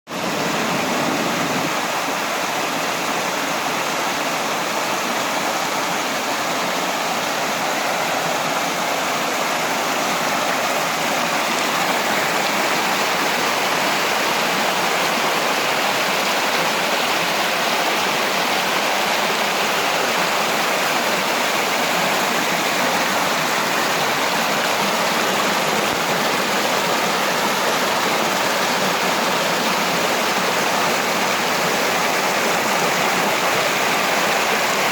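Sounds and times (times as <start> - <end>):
small waterfall pouring and splashing: 0.1 - 34.9.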